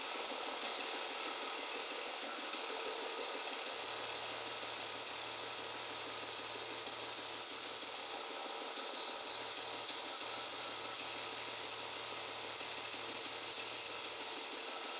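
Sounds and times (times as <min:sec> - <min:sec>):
car engine running with even knocking: 0:00.0 - 0:14.9.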